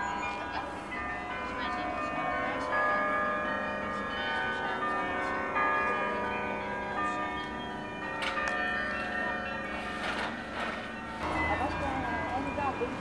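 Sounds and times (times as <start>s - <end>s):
carillon bells playing a tune: 0.0s - 13.0s.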